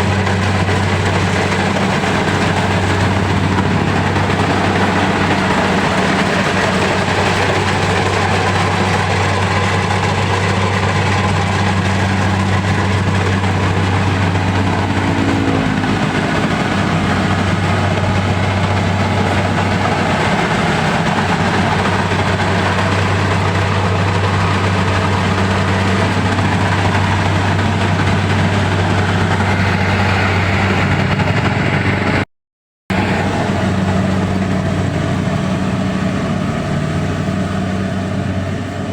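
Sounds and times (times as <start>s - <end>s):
heavy engine running: 0.0s - 32.3s, 32.9s - 38.9s.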